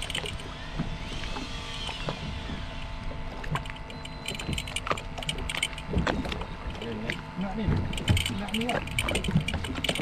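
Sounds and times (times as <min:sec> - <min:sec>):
water lapping against hull: 0:00.0 - 0:10.0.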